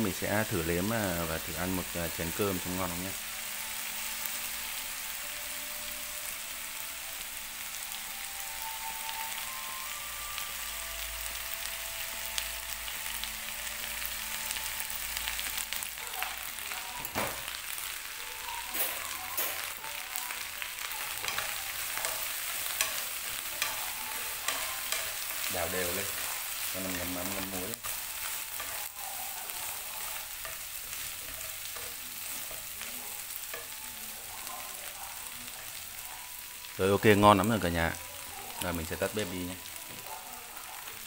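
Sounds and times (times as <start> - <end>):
pork skin sizzling in a pan: 0.0 - 41.0.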